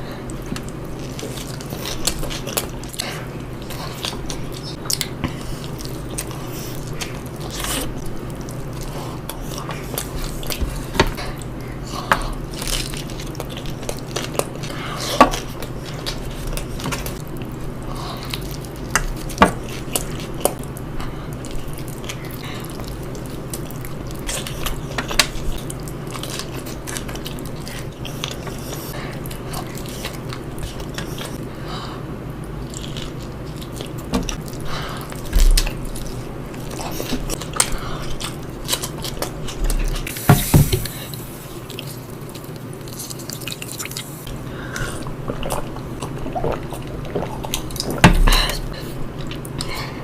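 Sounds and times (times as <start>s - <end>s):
person chewing food: 0.0s - 50.0s.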